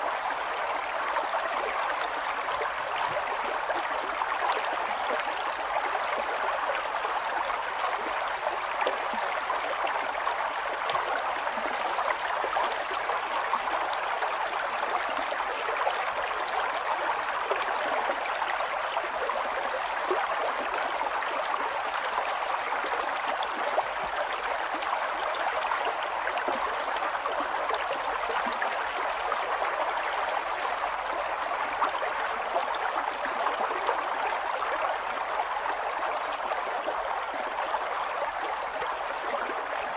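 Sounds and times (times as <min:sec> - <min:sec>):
flowing water babbling: 0:00.0 - 0:39.9.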